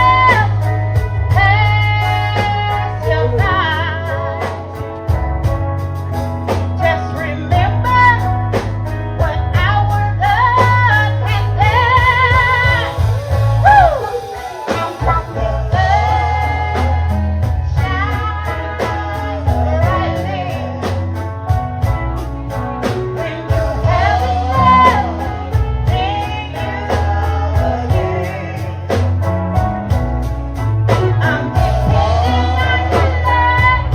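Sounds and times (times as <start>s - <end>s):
guitar: 0.0s - 33.9s
heavy bass line: 0.0s - 33.9s
steady drum beat: 0.0s - 33.9s.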